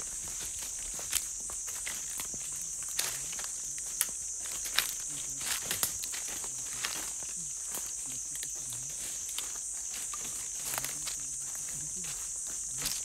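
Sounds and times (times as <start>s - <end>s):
footsteps on forest floor: 0.0s - 13.0s
high insect drone: 0.0s - 13.0s.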